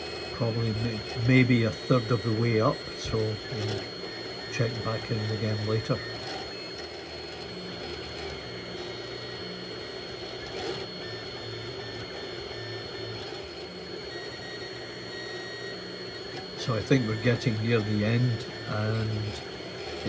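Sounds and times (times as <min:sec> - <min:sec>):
faint high whine: 0:00.0 - 0:20.0
steady whirr: 0:00.0 - 0:20.0
stepper motors whining: 0:00.0 - 0:20.0.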